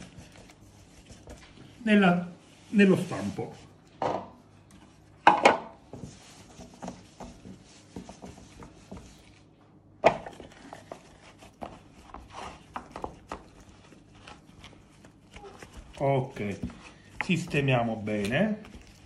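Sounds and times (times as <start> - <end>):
dough handling rustling: 0.0 - 19.0.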